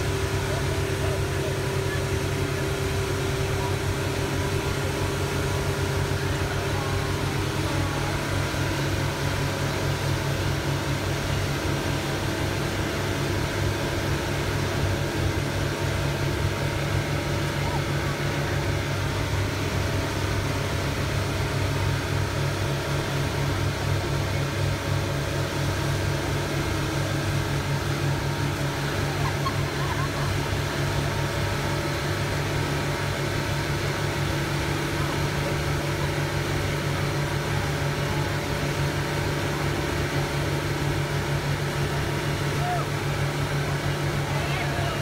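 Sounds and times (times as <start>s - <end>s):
churning wake rushing: 0.0s - 45.0s
motorboat engine droning: 0.0s - 45.0s
wind: 0.0s - 45.0s.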